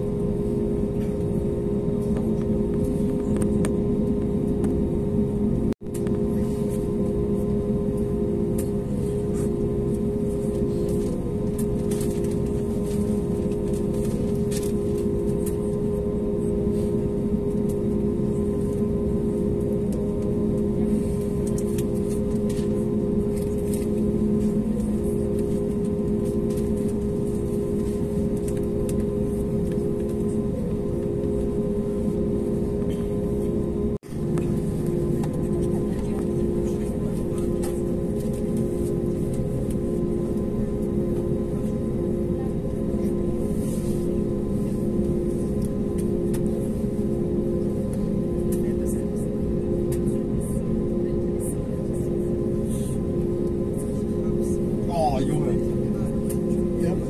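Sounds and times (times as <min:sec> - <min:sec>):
aircraft cabin droning hum: 0:00.0 - 0:57.0.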